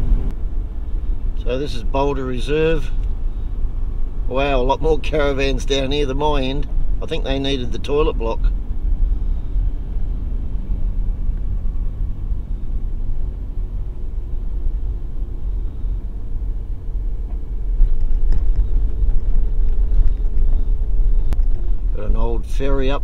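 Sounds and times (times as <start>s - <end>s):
car rumbling on dirt road: 0.0s - 23.0s.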